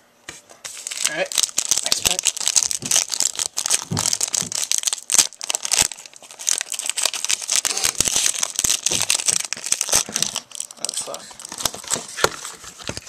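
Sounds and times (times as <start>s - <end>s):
foil pack tearing and crinkling: 0.7s - 13.0s.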